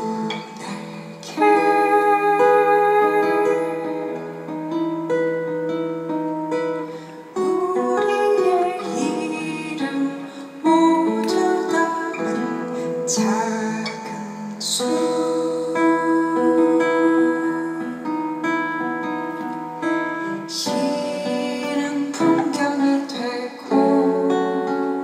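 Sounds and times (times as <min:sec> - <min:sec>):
acoustic guitar: 0:00.0 - 0:25.0
person singing: 0:00.0 - 0:25.0.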